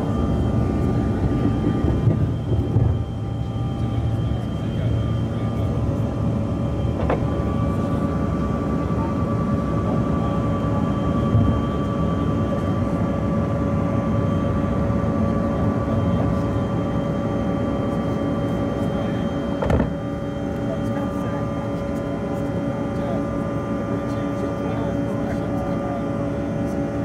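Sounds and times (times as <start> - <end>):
jet engines roaring in cabin: 0.0 - 27.0.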